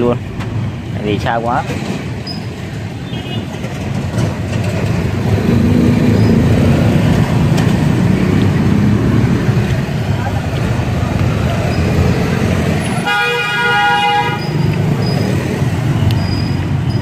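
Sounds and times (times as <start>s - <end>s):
road traffic: 0.0s - 17.0s
vehicle engine: 0.0s - 17.0s.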